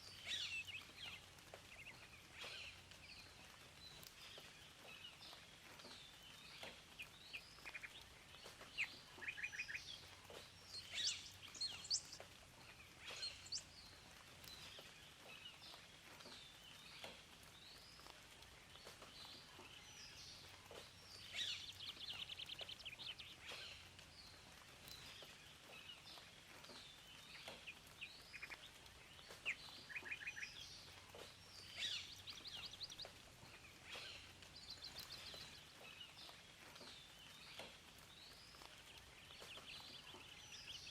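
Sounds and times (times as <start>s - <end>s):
faint background hiss: 0.0s - 40.9s
songbirds chirping and trilling: 0.0s - 40.9s.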